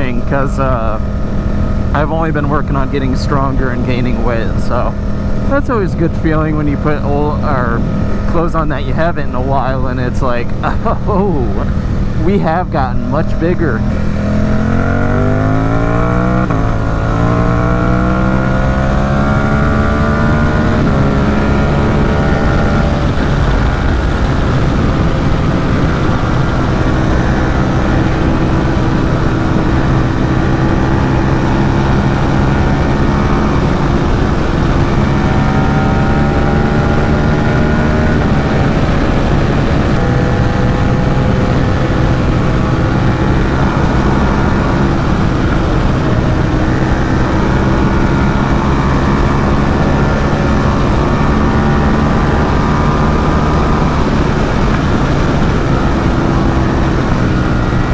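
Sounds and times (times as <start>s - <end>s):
motorcycle engine running: 0.0s - 57.9s
rush of noise: 0.0s - 57.9s.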